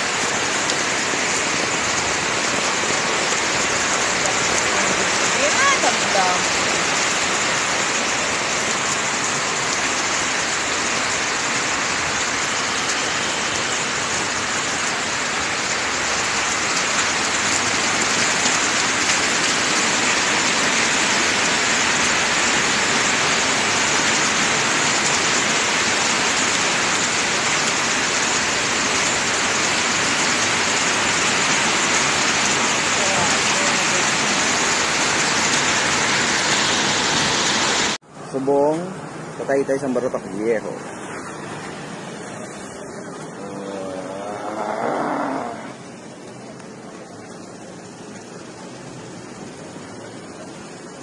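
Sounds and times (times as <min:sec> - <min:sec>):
heavy rain splashing on water: 0:00.0 - 0:51.0.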